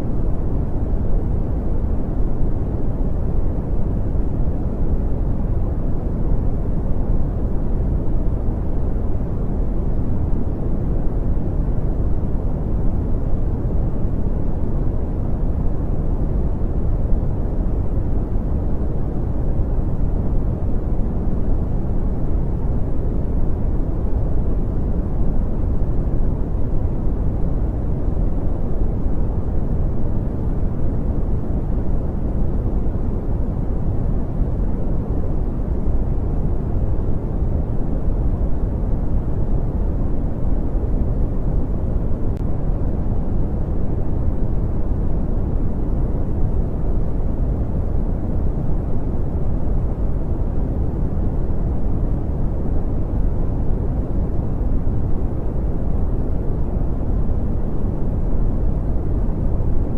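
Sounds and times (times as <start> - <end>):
brown noise rumble: 0.0 - 59.9.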